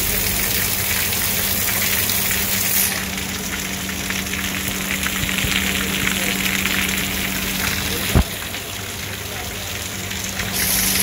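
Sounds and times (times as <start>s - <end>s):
heavy rain hiss: 0.0s - 11.0s
water splashing onto concrete: 0.0s - 11.0s.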